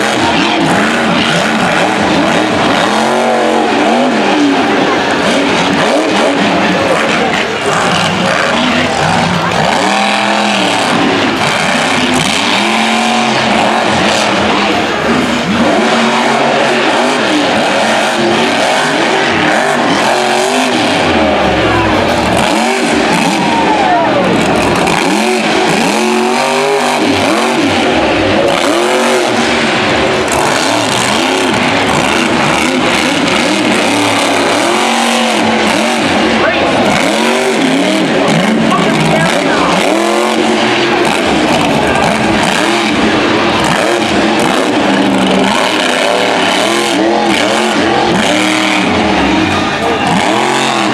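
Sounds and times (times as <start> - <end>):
monster truck engine revving: 0.0 - 50.9.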